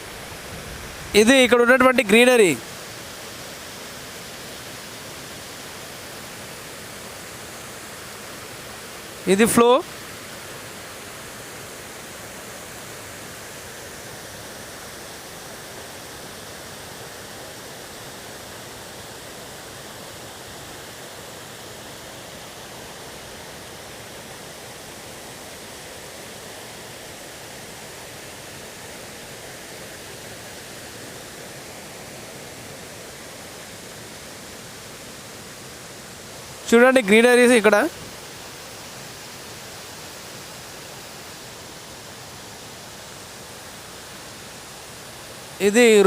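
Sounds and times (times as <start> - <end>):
water rushing: 0.0 - 46.0.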